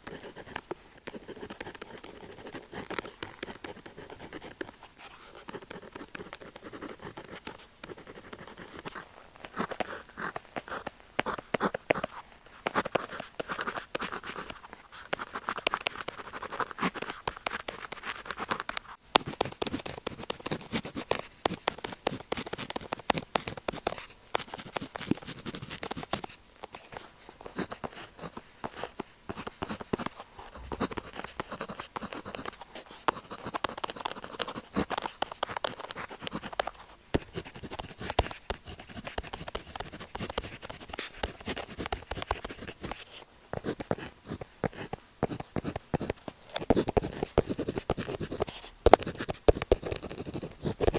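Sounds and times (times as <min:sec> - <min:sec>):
pen scratching on paper: 0:00.0 - 0:50.9.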